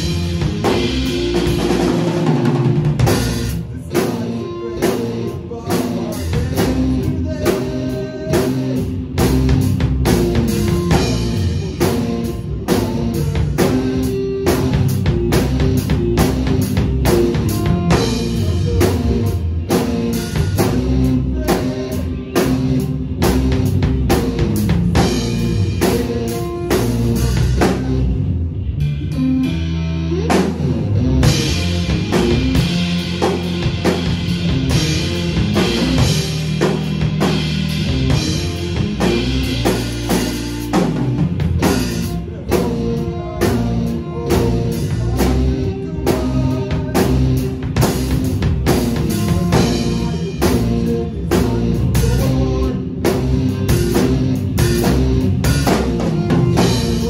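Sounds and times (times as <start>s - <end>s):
bass notes: 0.0s - 57.0s
drum kit: 0.0s - 57.0s
electric guitar: 0.0s - 57.0s.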